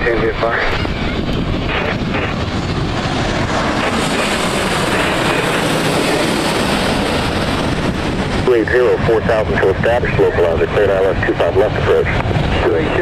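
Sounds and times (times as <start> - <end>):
jet airliner passing overhead: 0.0 - 13.0.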